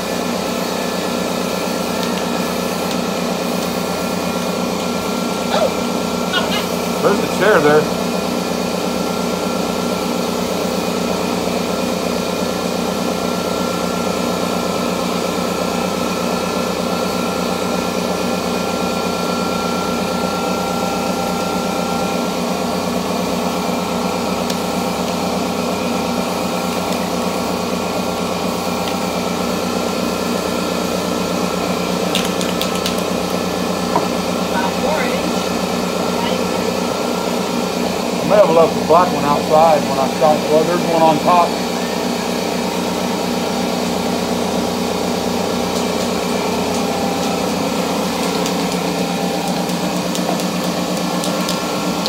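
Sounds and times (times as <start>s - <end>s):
air compressor chugging: 0.0s - 52.0s.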